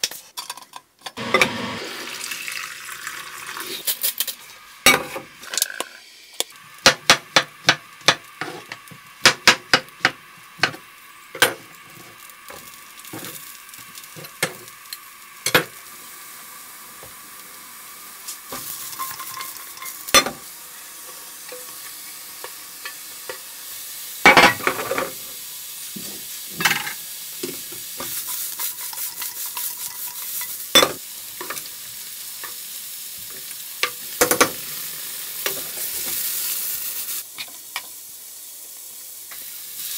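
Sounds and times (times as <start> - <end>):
pasta sizzling in a frying pan: 1.2 - 39.9.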